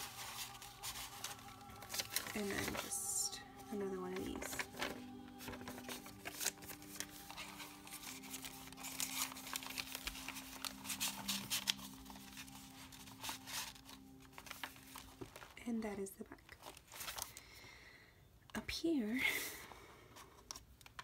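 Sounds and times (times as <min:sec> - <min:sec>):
paper pages rustling: 0:00.0 - 0:17.5.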